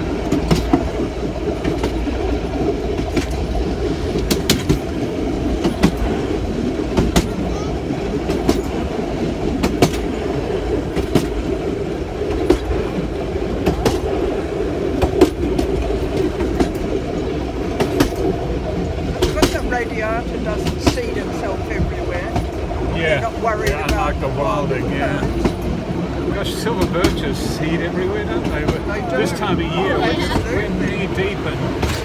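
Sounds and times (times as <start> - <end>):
train wheel clicks: 0.0 - 7.5, 8.1 - 22.7, 23.6 - 24.3, 24.9 - 29.2, 30.4 - 32.0
train rumbling on rails: 0.0 - 32.0.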